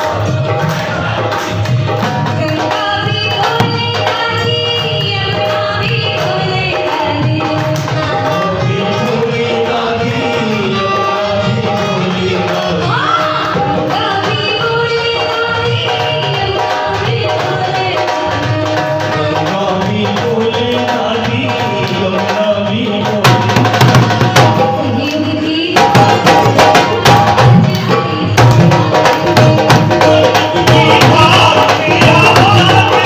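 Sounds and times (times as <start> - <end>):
hand drum: 0.0 - 33.0.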